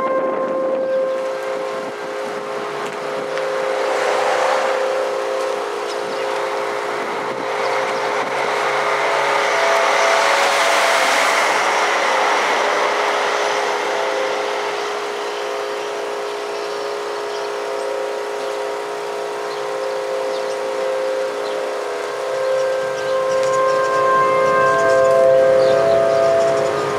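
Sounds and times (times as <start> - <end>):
warning siren steady tone: 0.0 - 26.9
passing vehicle road noise: 0.1 - 26.9.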